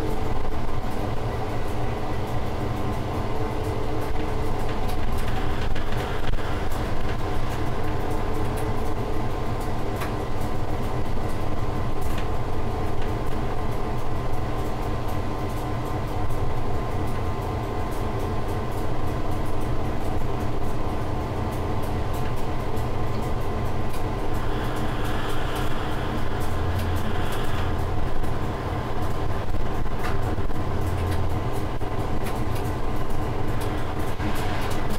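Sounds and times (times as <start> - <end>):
locomotive engine drone: 0.0 - 34.9
wheels rumbling on rail: 0.0 - 34.9.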